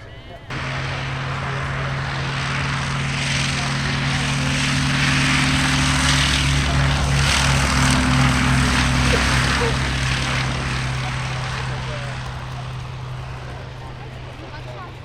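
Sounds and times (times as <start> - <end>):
propeller aircraft engine droning: 0.0 - 15.0
rushing air noise: 0.5 - 13.4.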